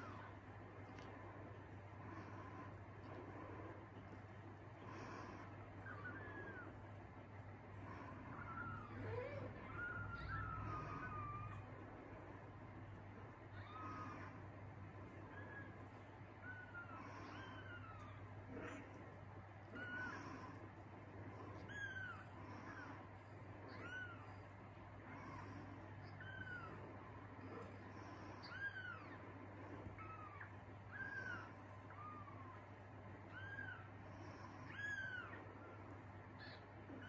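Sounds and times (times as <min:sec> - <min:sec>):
kittens mewing: 0:00.0 - 0:37.0.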